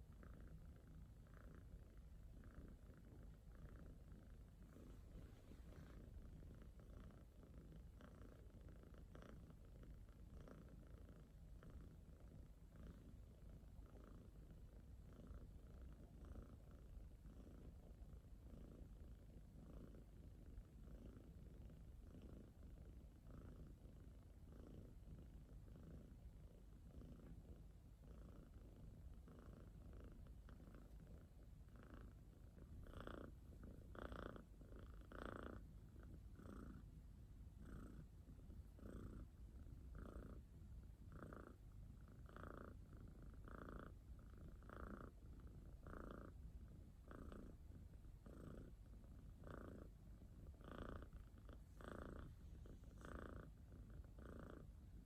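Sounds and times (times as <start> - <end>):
cat purring faintly: 0.0 - 55.0.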